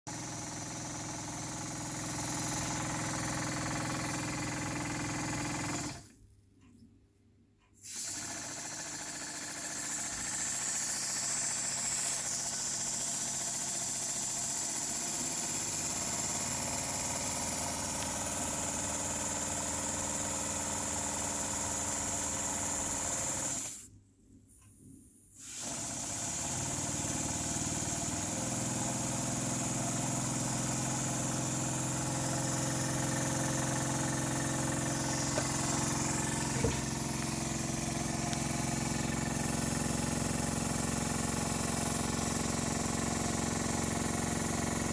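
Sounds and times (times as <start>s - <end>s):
model steam engine running: 0.1s - 6.0s, 7.9s - 23.7s, 25.6s - 44.9s.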